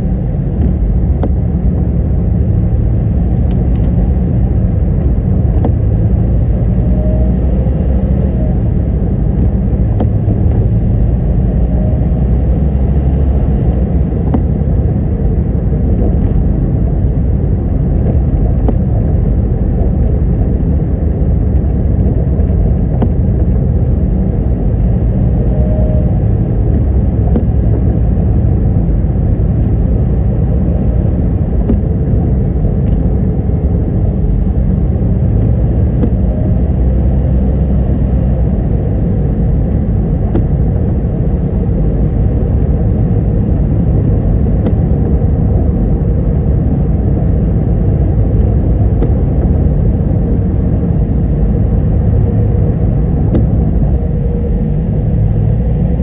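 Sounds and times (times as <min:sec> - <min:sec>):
tyre and engine rumble: 0:00.0 - 0:56.0.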